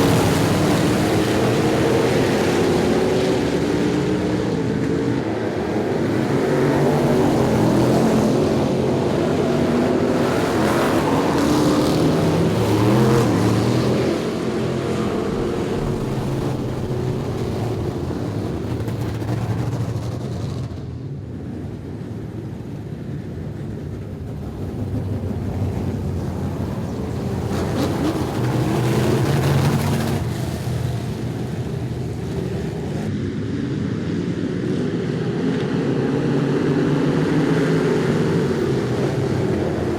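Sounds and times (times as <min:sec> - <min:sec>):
race car engines passing: 0:00.0 - 0:21.2, 0:23.5 - 0:33.1, 0:34.9 - 0:39.9.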